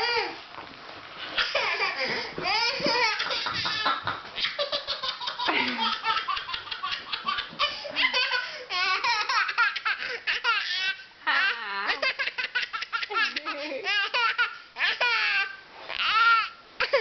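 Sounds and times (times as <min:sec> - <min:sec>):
baby laughing: 0:01.4 - 0:17.0.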